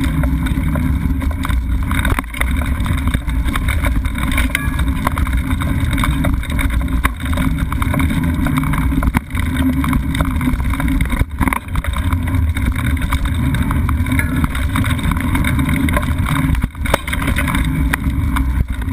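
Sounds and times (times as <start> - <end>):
bike knocks and rattles: 0.0 - 18.9
bike tyres rumbling on dirt: 0.0 - 18.9.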